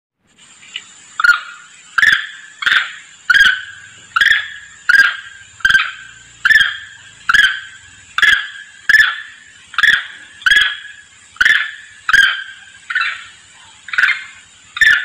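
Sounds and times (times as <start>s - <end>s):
macaque calling: 1.2s - 15.0s.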